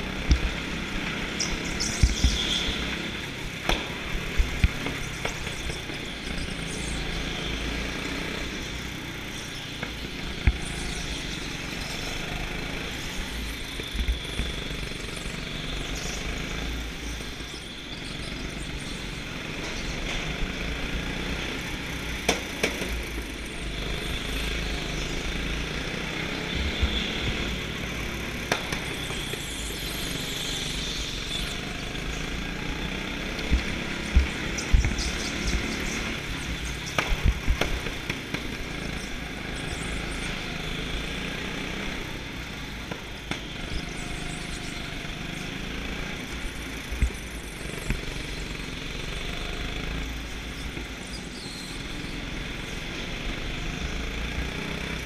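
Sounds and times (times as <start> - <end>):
go-kart engine and tyre noise: 0.0 - 55.0.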